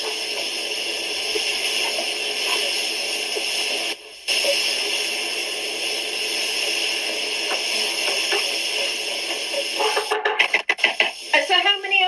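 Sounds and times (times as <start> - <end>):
tomatoes sizzling in a pan: 0.0 - 10.1.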